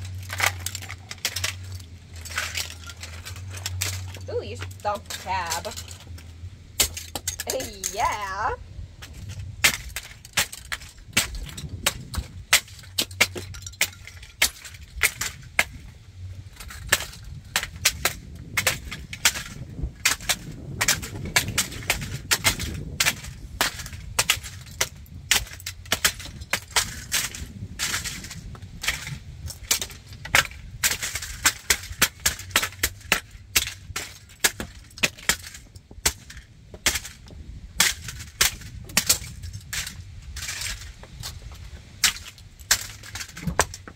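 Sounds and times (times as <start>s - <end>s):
plastic and metal toy cracking: 0.0s - 8.2s, 9.0s - 15.9s, 16.6s - 37.2s, 37.8s - 43.9s
pieces scraping on concrete: 0.0s - 15.9s, 16.5s - 43.9s.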